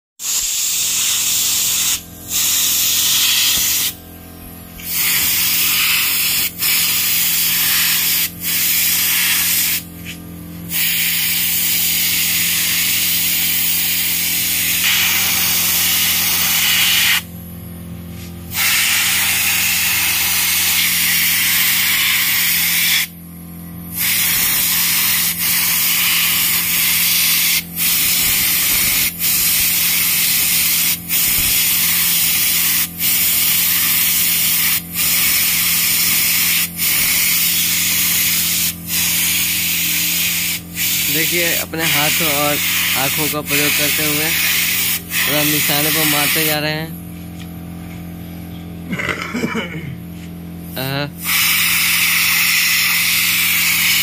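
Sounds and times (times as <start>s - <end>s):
spray gun hissing: 0.2s - 4.0s, 4.8s - 17.3s, 18.1s - 23.2s, 23.9s - 46.8s, 50.7s - 54.0s
steady low hum: 0.8s - 54.0s.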